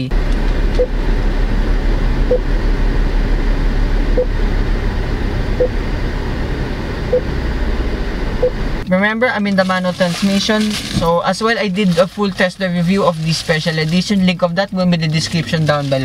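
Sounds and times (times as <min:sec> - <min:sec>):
low rumble inside car: 0:00.0 - 0:16.0.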